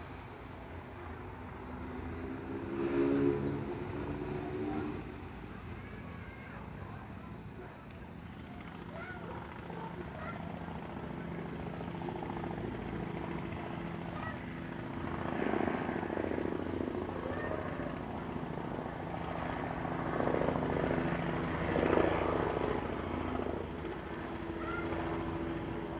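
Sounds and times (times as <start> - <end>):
helicopter flying overhead: 0.0 - 25.9.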